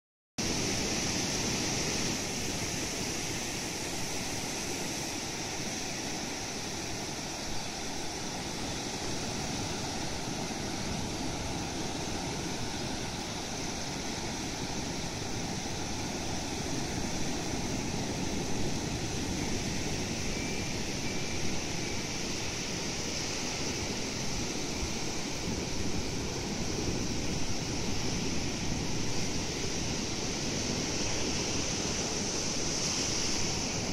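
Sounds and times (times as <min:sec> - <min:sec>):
ocean surf breaking on beach: 0:00.4 - 0:33.9.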